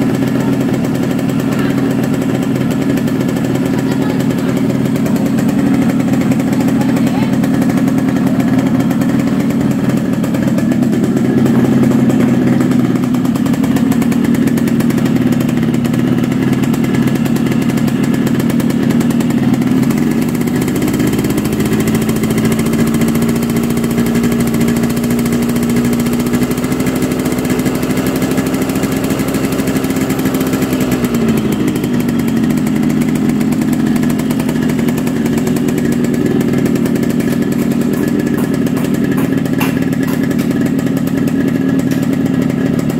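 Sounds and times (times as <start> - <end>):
two-stroke engine running: 0.0 - 42.9.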